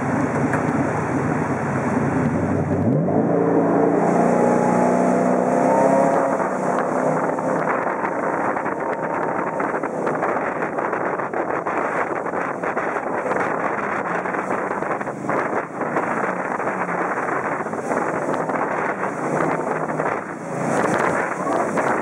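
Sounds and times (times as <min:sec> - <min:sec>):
jet boat engine revving: 0:00.0 - 0:22.0
rushing water and wind: 0:00.0 - 0:22.0.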